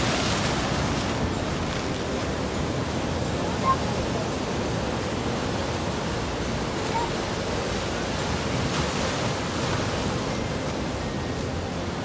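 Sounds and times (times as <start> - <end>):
ocean surf on rocky shore: 0.0 - 12.0.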